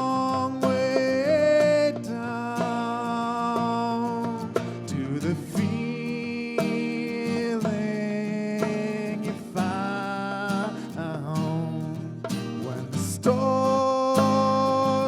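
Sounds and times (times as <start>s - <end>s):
acoustic guitar strumming: 0.0s - 15.0s
person singing long notes: 0.0s - 15.0s.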